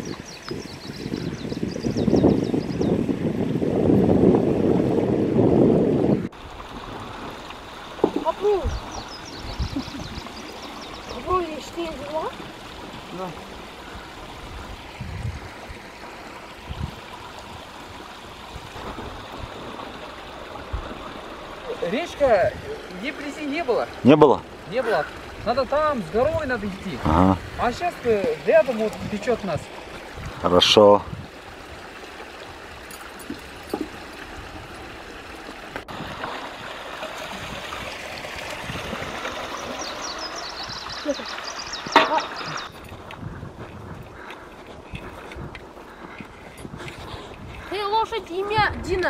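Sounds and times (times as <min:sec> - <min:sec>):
spring water running over rocks: 0:00.0 - 0:49.0.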